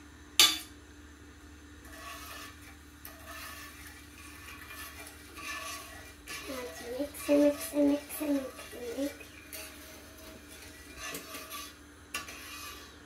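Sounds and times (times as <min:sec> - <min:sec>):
metal spoon scraping metal pan: 0:01.8 - 0:13.0.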